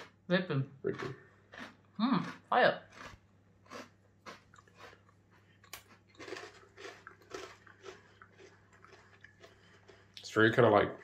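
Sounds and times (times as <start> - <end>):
person chewing cracker: 0.9 - 10.4.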